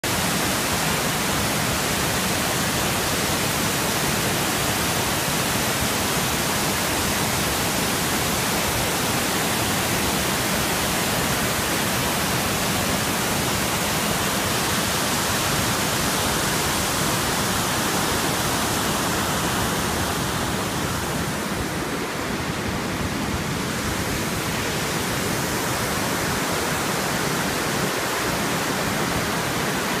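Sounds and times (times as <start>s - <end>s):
water rushing over spillway: 0.0s - 30.0s.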